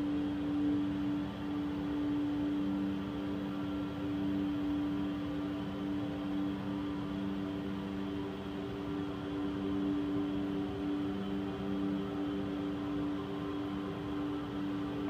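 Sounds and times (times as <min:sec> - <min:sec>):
low hum of held tones: 0:00.0 - 0:15.0.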